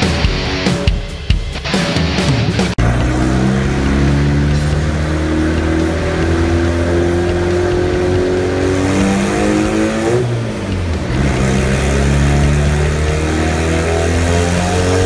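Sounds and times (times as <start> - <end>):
car engine revving under load: 2.7 - 15.0.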